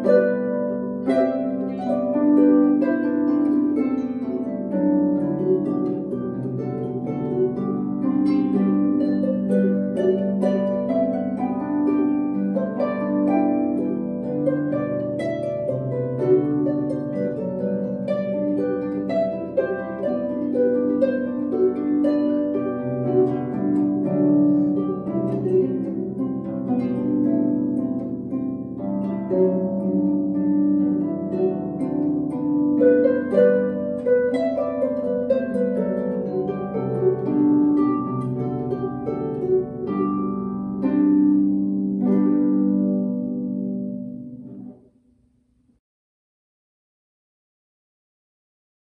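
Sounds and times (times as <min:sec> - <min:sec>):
harp playing a melody: 0:00.0 - 0:45.0.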